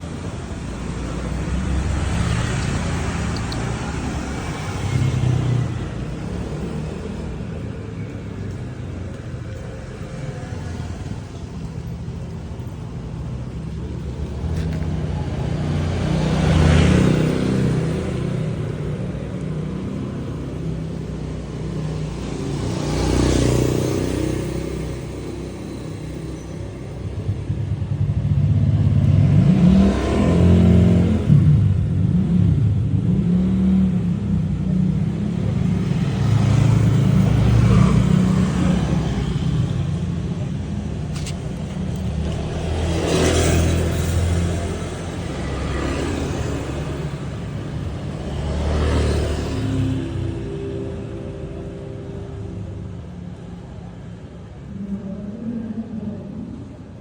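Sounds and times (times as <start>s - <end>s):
traffic engines rumbling: 0.0s - 57.0s
vehicles passing by: 0.0s - 57.0s.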